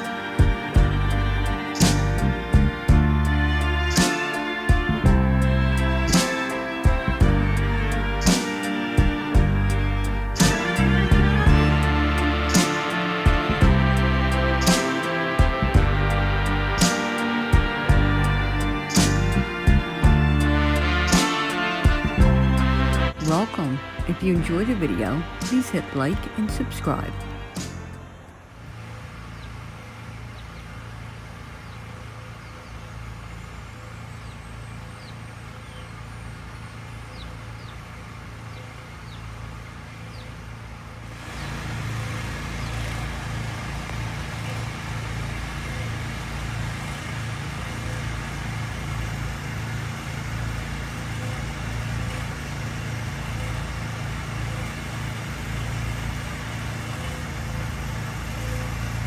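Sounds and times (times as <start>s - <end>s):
low rumble of road traffic: 0.0s - 59.0s.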